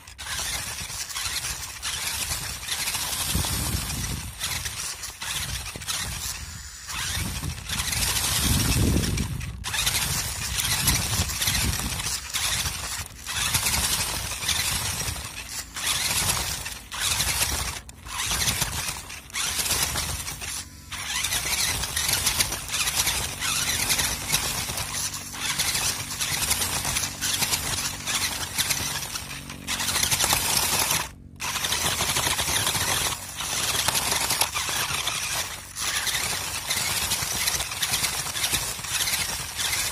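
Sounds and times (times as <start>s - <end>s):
rc truck motor whine: 0.0s - 39.9s
tyres scrabbling over dirt: 0.0s - 39.9s.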